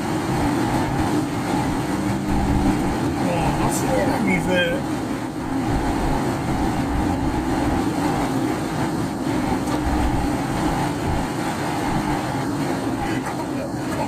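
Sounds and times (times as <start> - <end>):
car engine: 0.0 - 14.0
tyres on wet road: 0.0 - 14.0.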